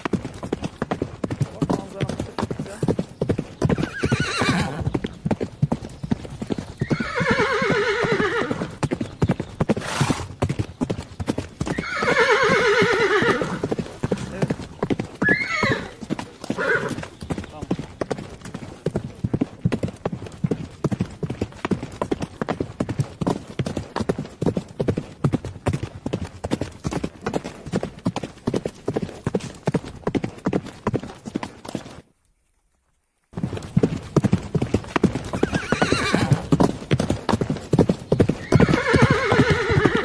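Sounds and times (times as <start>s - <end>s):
horse hooves clip-clopping: 0.0s - 40.0s.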